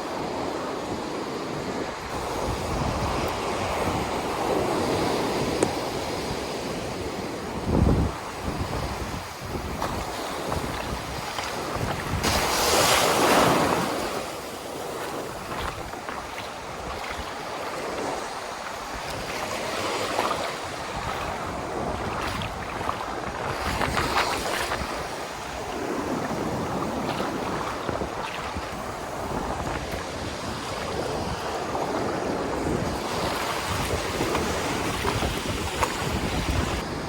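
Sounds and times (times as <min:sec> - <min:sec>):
waves breaking on beach: 0:00.0 - 0:37.0
wind buffeting microphone: 0:00.0 - 0:37.0.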